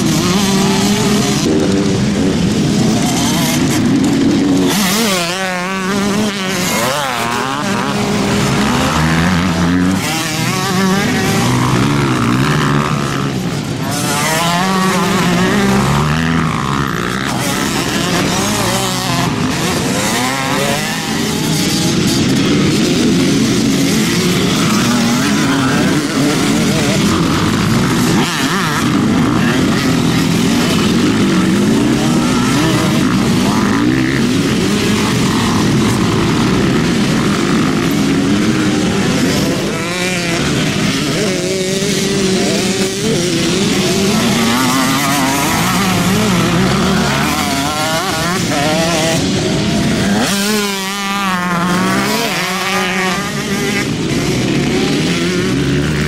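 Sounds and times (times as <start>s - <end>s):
motocross bikes racing past: 0.0s - 56.0s.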